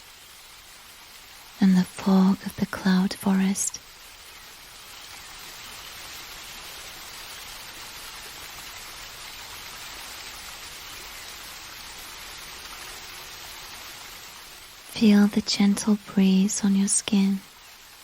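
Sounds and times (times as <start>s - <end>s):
falling water hiss: 0.0s - 18.0s.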